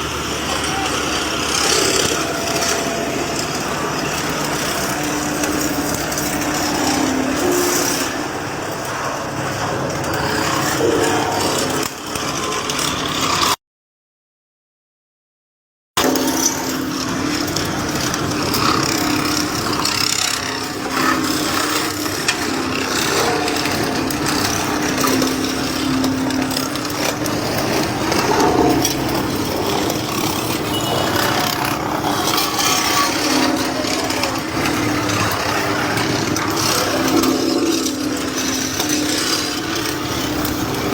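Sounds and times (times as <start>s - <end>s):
motor running: 0.0s - 13.0s, 16.0s - 40.9s
grinding scraping noise: 0.0s - 13.6s, 16.0s - 40.9s.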